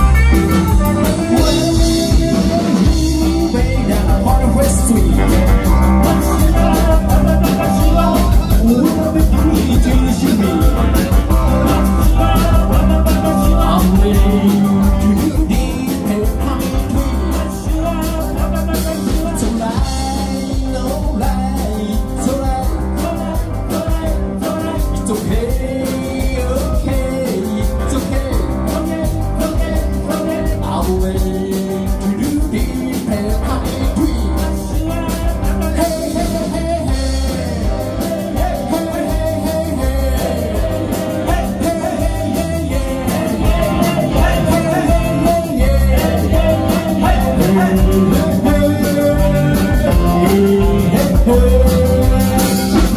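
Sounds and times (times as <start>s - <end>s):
drum kit: 0.0s - 52.9s
electric bass: 0.0s - 52.9s
electric guitars: 0.0s - 52.9s
keyboard: 0.0s - 52.9s.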